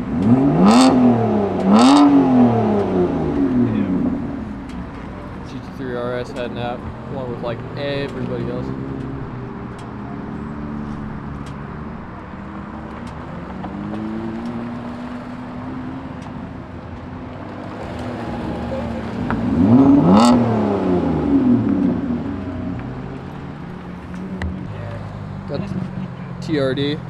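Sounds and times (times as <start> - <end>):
car engine revving hard: 0.0 - 27.0
cars pulling away: 0.0 - 27.0.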